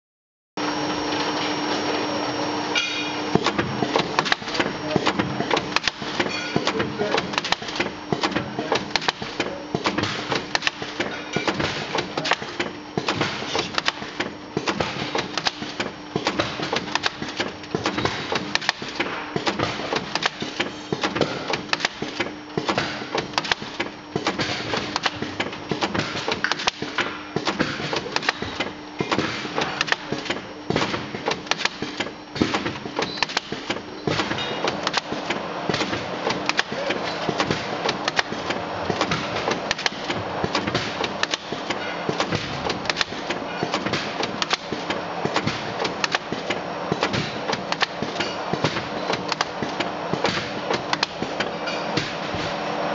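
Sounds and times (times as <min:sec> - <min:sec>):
machine hum: 0:00.6 - 0:52.9
capping machine clattering: 0:02.8 - 0:52.9.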